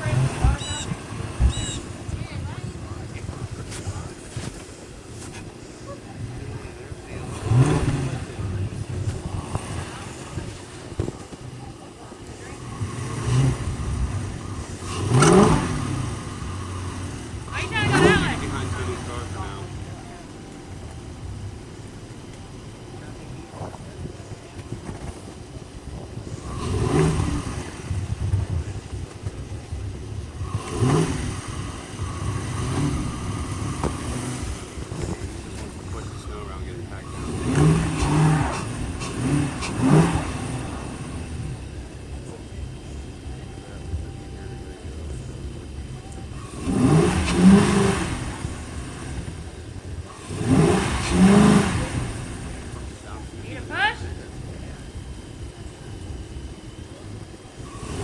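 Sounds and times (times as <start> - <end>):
car engine revving in snow: 0.0 - 58.0.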